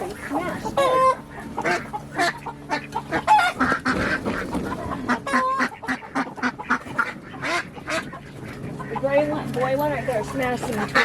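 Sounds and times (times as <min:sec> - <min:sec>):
chickens clucking: 0:00.0 - 0:11.0
ducks quacking: 0:00.0 - 0:11.0.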